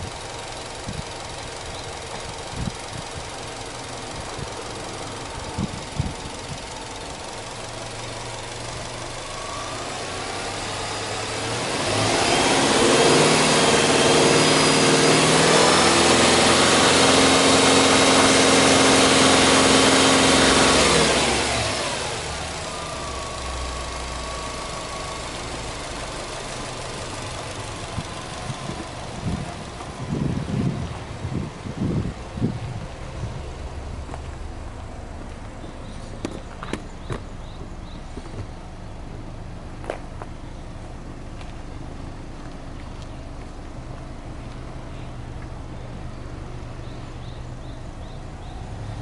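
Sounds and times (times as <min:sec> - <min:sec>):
car engine idling and revving: 0:00.0 - 0:49.0.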